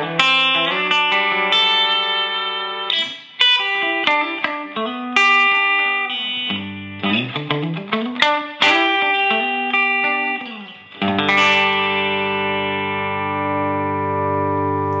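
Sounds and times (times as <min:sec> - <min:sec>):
electric guitar chord ringing: 0:00.0 - 0:15.0
electric guitar single notes: 0:00.0 - 0:15.0.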